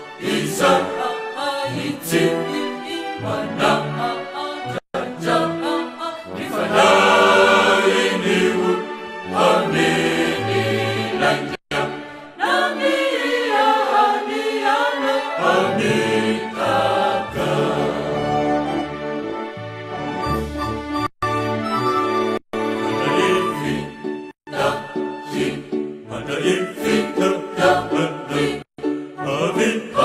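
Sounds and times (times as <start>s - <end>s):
choir singing: 0.0s - 18.9s, 22.8s - 30.0s.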